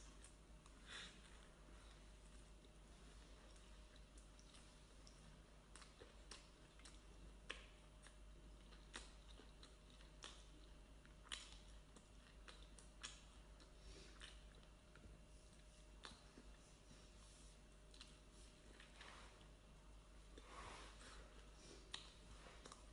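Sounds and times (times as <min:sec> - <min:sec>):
person chewing: 0:00.0 - 0:16.8, 0:17.8 - 0:19.5, 0:20.3 - 0:22.9
soft mouth clicks and smacks: 0:00.0 - 0:16.8, 0:17.8 - 0:19.5, 0:20.3 - 0:22.9.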